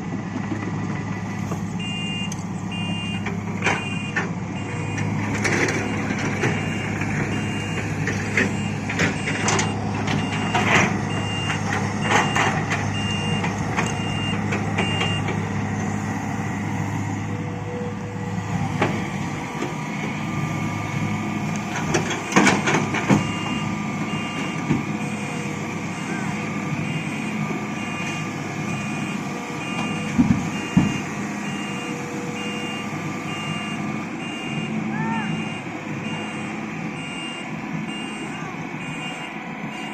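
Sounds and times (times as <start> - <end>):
heavy diesel engines running: 0.0 - 39.9
reversing alarm beeping: 1.8 - 15.8, 21.8 - 39.9.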